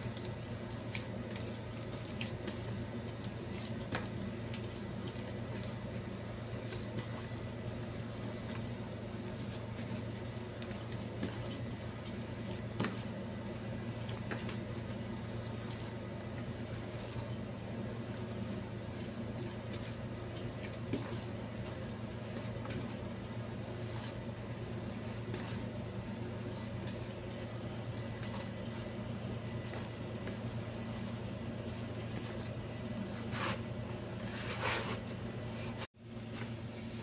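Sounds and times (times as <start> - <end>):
dough squishing and patting: 0.0 - 37.0
steady low hum: 0.0 - 37.0.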